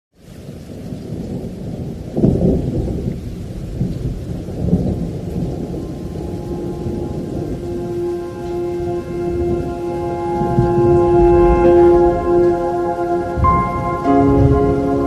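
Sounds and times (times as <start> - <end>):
steady rain: 0.1 - 15.0
thunder rumbling: 0.3 - 15.0.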